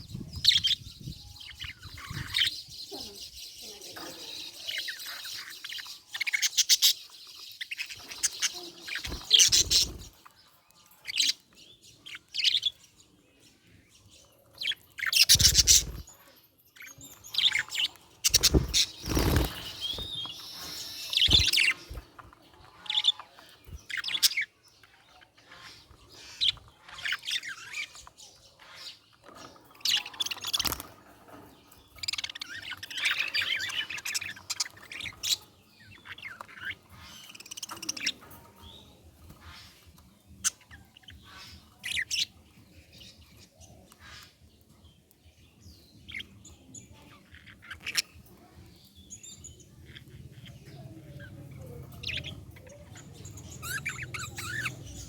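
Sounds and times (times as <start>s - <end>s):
budgerigar chirping and chattering: 0.0s - 10.2s, 14.6s - 16.1s, 16.8s - 29.2s, 32.0s - 44.6s, 46.0s - 48.3s, 49.0s - 55.0s.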